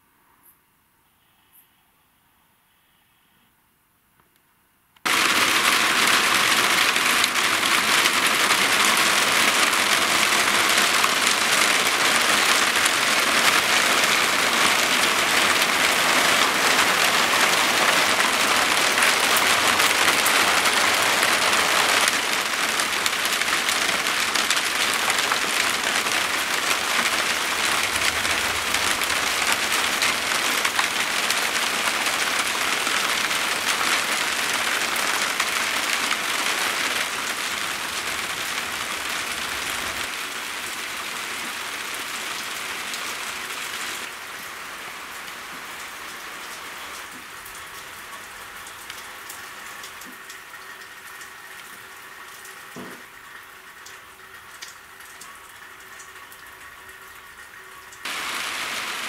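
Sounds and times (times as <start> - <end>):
rain falling steadily: 5.0 - 59.0.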